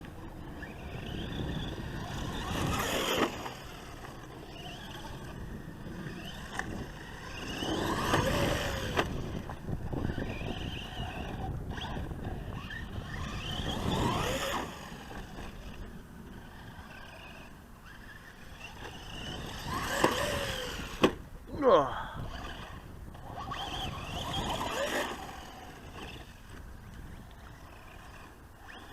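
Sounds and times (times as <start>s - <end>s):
electric motor whining: 0.1s - 28.9s.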